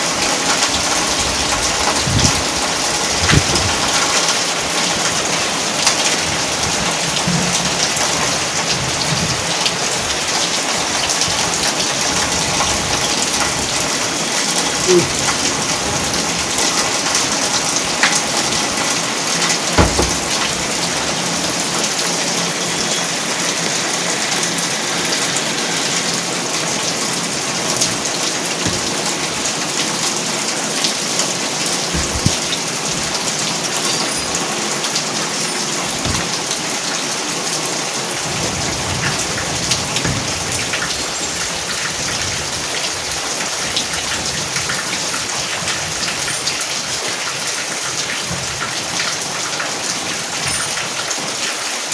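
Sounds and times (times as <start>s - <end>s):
steady rain patter: 0.0s - 51.9s.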